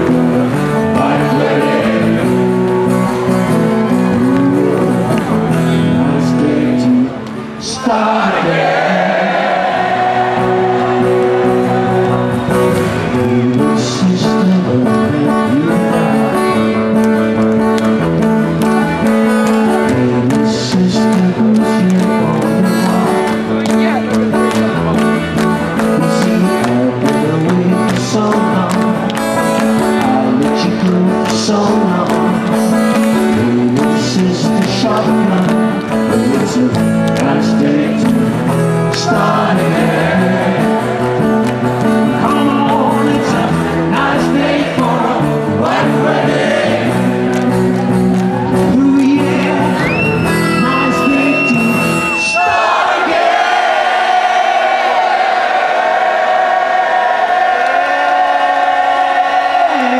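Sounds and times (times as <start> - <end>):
live rock band playing: 0.0 - 7.6, 10.2 - 52.2
man singing: 0.0 - 11.8, 12.9 - 17.4, 18.7 - 47.1, 48.5 - 52.8, 58.0 - 59.9.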